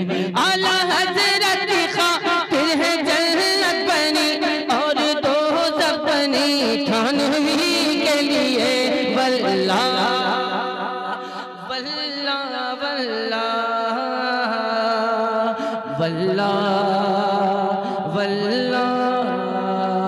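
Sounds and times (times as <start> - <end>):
man singing through microphone: 0.0 - 20.0.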